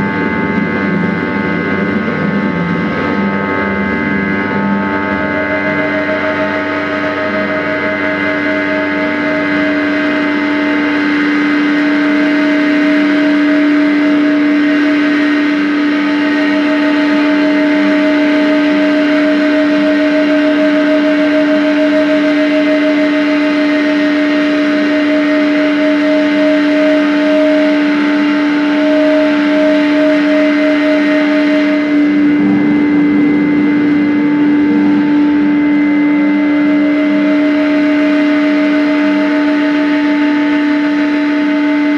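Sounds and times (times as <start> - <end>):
drone music held tones: 0.0 - 41.9.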